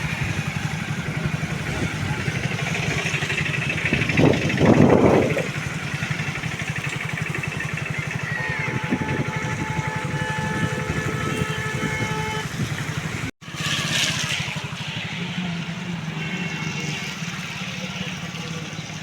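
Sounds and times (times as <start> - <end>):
motor engine running: 0.0 - 19.0.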